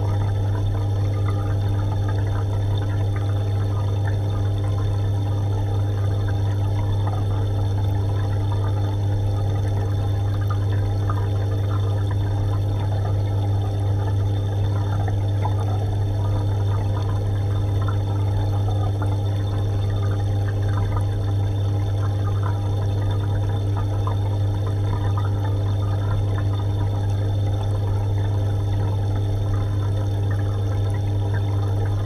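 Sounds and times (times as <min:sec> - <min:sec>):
aquarium pump hum: 0:00.0 - 0:32.0
water trickling and bubbling: 0:00.0 - 0:32.0.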